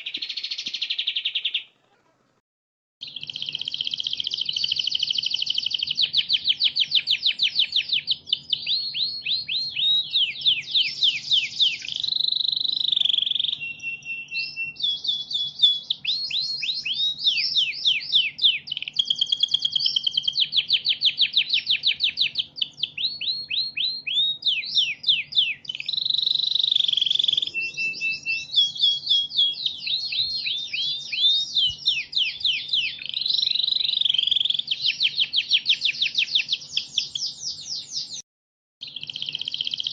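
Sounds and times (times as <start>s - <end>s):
recorded songbird trills: 0.0s - 1.9s, 3.0s - 38.2s, 38.8s - 39.9s.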